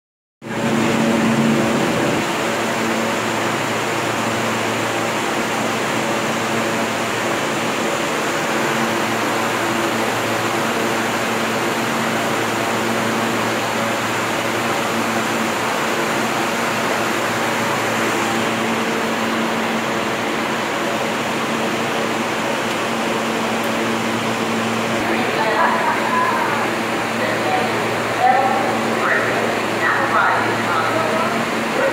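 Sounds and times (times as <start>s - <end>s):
train air-conditioning whirring hum: 0.4s - 31.9s.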